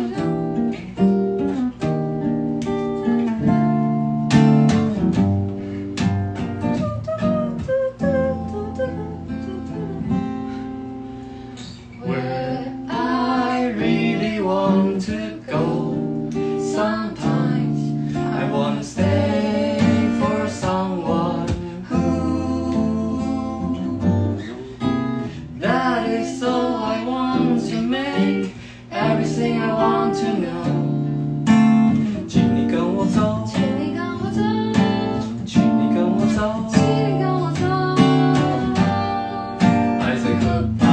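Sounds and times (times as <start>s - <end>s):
woman and man singing: 0.0s - 1.2s, 6.7s - 10.6s, 11.6s - 40.9s
acoustic guitar strumming: 0.0s - 40.9s.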